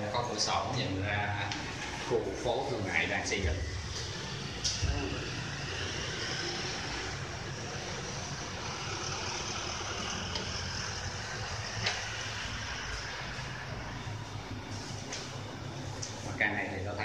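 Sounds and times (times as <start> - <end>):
passing vehicles rumbling: 0.0 - 15.9.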